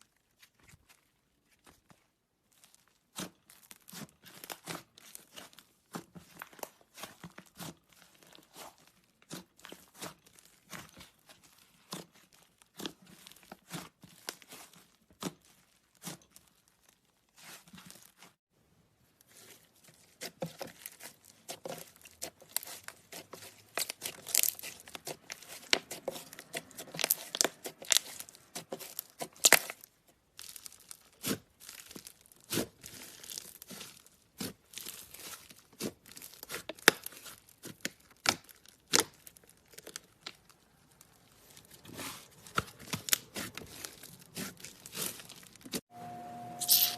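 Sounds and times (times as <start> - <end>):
slime squished by hand: 2.6 - 18.2, 19.3 - 45.8.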